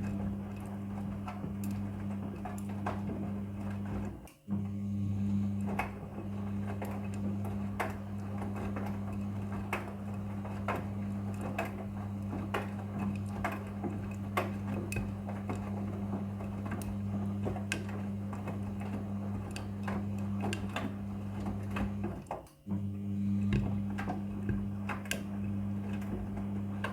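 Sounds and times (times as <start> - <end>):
washing machine motor hum: 0.0 - 26.9.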